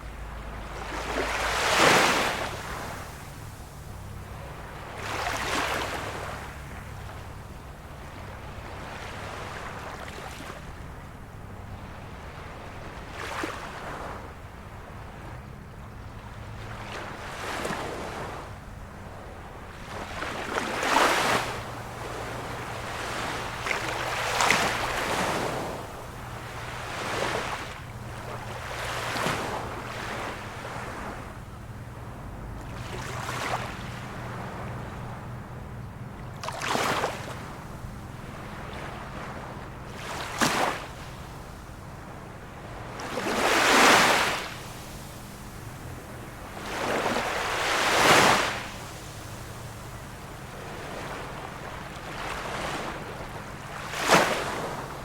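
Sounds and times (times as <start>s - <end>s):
small waves washing in: 0.0s - 55.0s.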